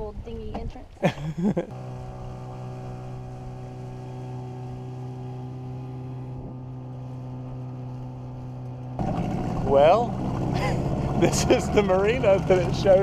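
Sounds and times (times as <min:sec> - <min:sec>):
outboard motor running: 0:01.7 - 0:13.0.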